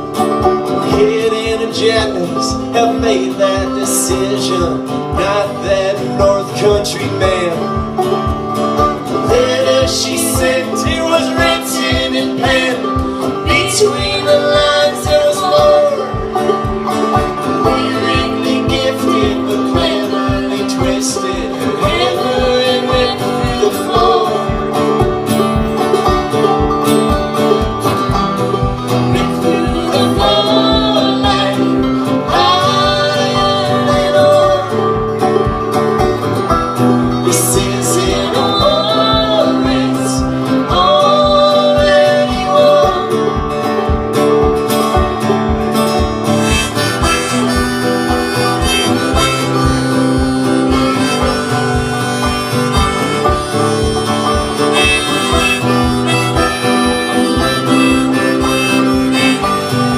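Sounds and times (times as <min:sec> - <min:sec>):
harmonica melody: 0:00.0 - 0:59.9
strummed guitar: 0:00.0 - 0:59.9.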